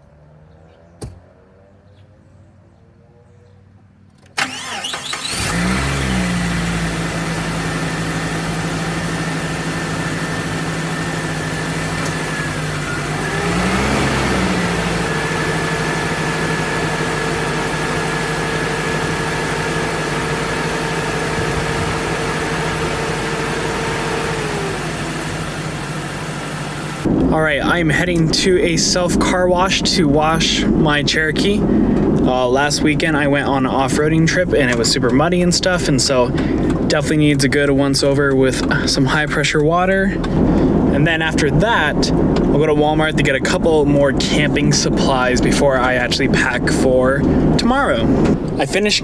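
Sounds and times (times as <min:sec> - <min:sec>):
car engine cranking and idling: 0:04.0 - 0:49.0.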